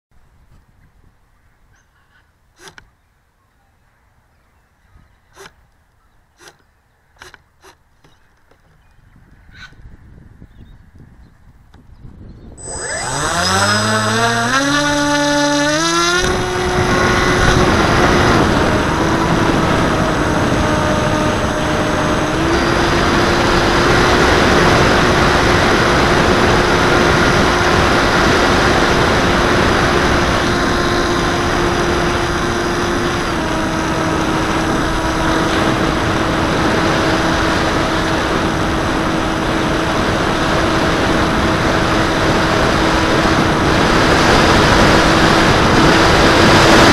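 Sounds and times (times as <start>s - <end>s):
electric motor and propeller whirring: 2.5s - 3.0s, 5.3s - 9.0s, 10.5s - 46.9s.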